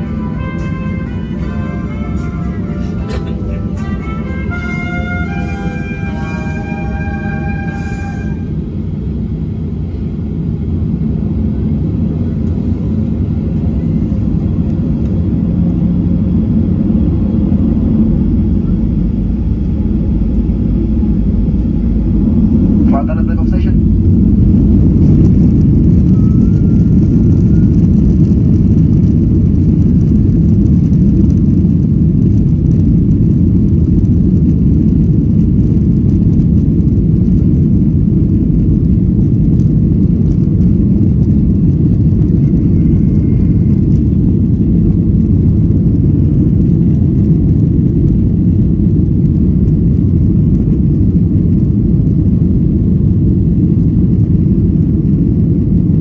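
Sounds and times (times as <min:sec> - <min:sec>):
jet engines rumbling in aircraft cabin: 0:00.0 - 0:56.0.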